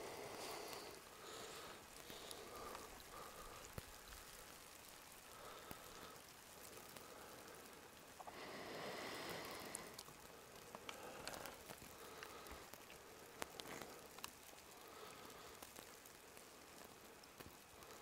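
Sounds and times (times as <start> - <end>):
wet snow falling: 0.0 - 18.0
small ticks: 0.2 - 18.0.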